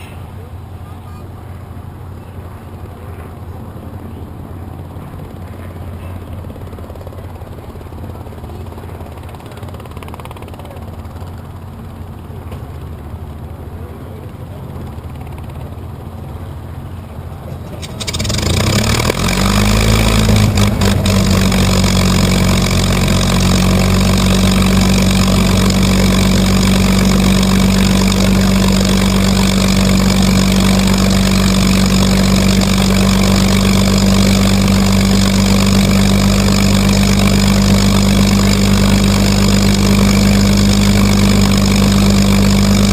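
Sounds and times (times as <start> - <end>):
aircraft engine starting: 0.0 - 42.9.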